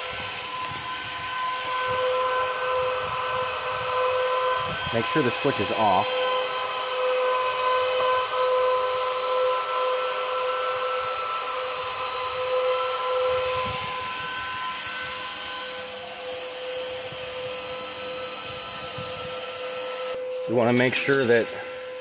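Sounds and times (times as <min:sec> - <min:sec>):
cooling fans whining: 0:00.0 - 0:22.0.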